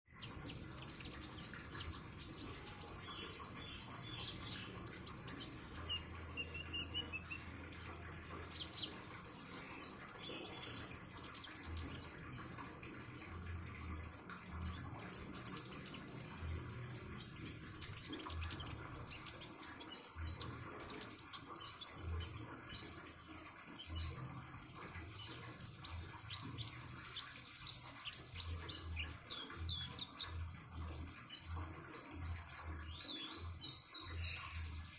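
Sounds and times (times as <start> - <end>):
songbird chirping and twittering: 0.1 - 34.9
water trickling: 0.1 - 34.9.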